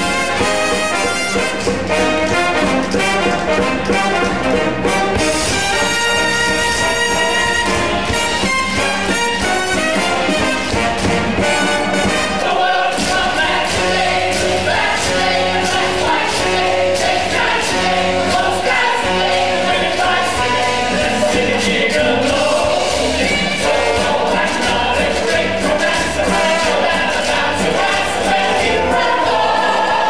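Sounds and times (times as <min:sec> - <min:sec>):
pit orchestra playing show tune: 0:00.0 - 0:30.0.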